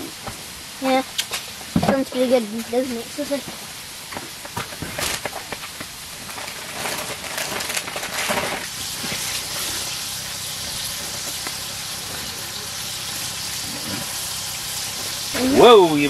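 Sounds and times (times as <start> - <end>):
meat and onions sizzling in pan: 0.0 - 16.0.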